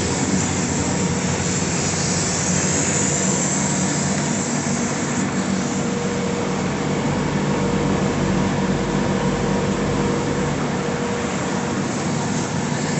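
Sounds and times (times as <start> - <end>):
machine fans and pumps humming: 0.0 - 12.9.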